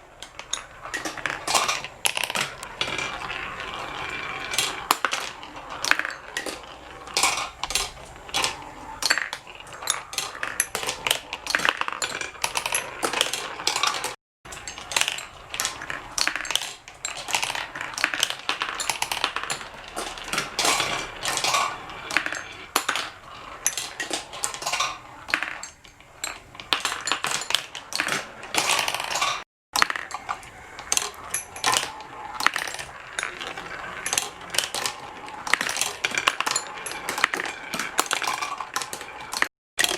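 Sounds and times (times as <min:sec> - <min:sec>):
marbles clattering down a track: 0:00.1 - 0:39.9.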